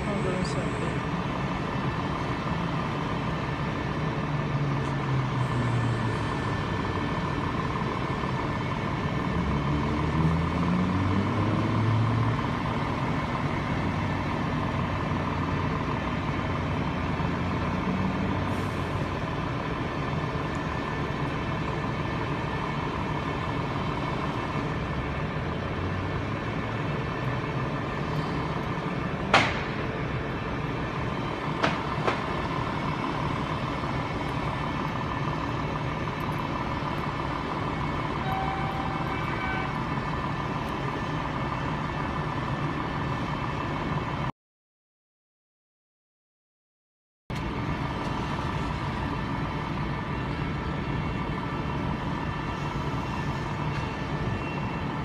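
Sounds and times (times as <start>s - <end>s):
diesel engines droning: 0.0s - 44.3s, 47.3s - 55.0s.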